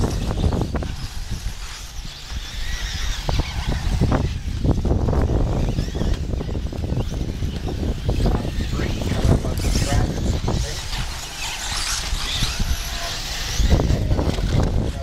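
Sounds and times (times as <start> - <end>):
electric rc cars racing: 0.0 - 15.0.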